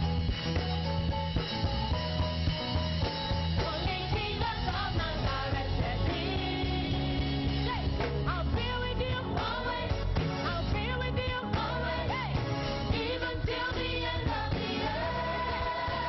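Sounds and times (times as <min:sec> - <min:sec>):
live band playing upbeat song: 0:00.0 - 0:16.0.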